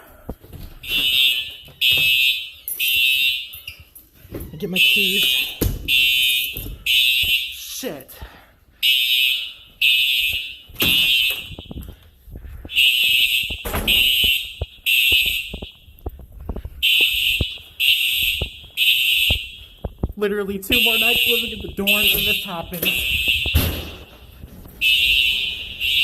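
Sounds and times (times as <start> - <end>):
knocks and shuffling: 0.0 - 8.4, 9.6 - 26.0
fire alarm horn blasts: 0.8 - 3.9, 4.6 - 7.8, 8.8 - 12.0, 12.6 - 16.0, 16.8 - 26.0.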